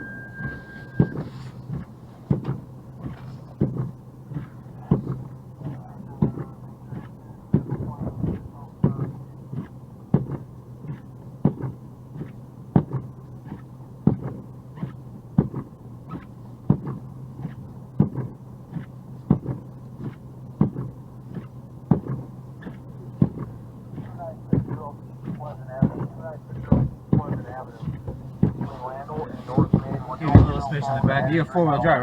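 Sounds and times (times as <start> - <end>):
car idling hum: 0.0 - 32.0
turn signal ticking: 0.0 - 32.0.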